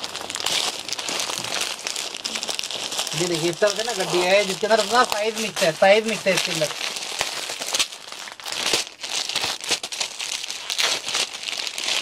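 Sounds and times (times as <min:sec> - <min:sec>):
clothing crinkling and rustling: 0:00.0 - 0:12.0.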